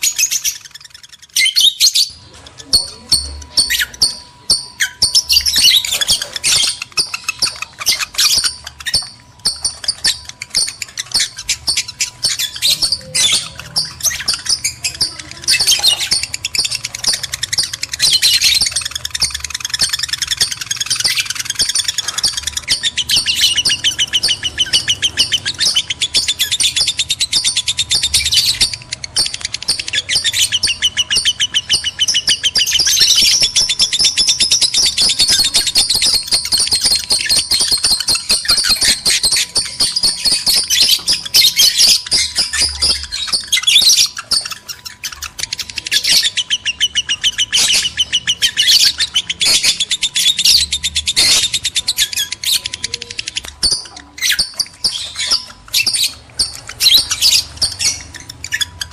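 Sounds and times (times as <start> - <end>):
lovebirds chirping and trilling: 0.0 - 58.9.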